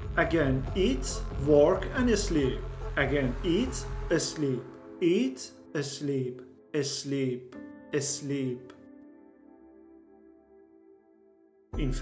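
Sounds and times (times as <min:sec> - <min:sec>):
soft ambient music chord: 0:00.0 - 0:12.0.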